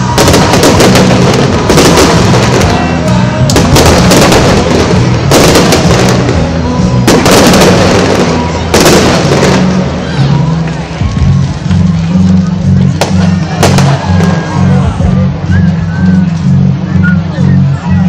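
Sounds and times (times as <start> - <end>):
fireworks booming and crackling: 0.0 - 15.2
music with low bass notes: 0.0 - 18.0.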